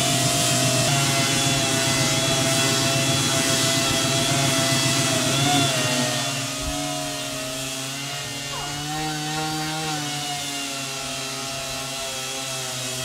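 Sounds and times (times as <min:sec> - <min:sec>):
orbital sander whining and grinding: 0:00.0 - 0:13.0.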